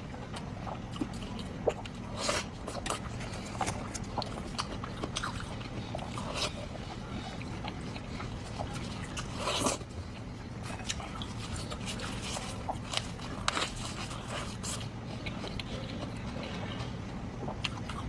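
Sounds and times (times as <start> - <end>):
chewing smacks: 0.0 - 18.0.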